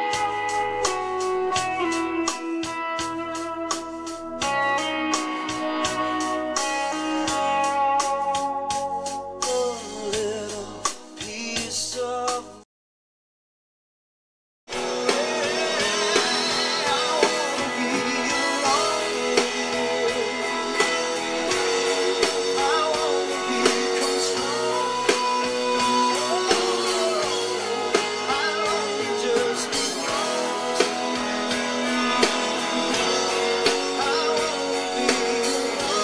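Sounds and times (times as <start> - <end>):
drums keeping steady beat: 0.0 - 12.6, 14.7 - 36.0
guitar: 0.0 - 12.6, 14.7 - 36.0
person singing: 4.8 - 12.6, 14.7 - 36.0.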